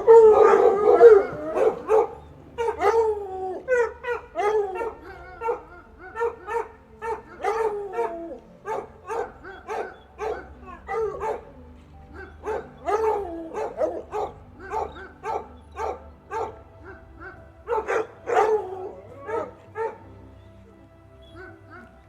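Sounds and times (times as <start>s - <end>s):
dog barking and whining: 0.0s - 20.1s.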